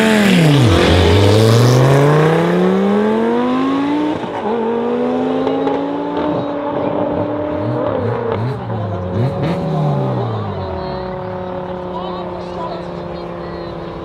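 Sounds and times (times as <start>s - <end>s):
cars accelerating hard: 0.0s - 14.0s.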